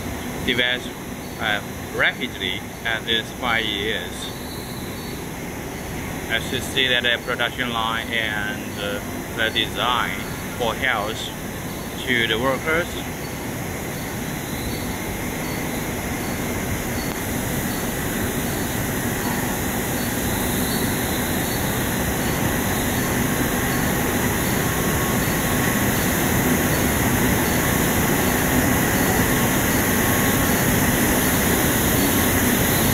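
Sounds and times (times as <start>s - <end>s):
extraction fans: 0.0s - 32.9s
faint steady tones: 0.0s - 32.9s
production line machinery hum: 0.0s - 32.9s.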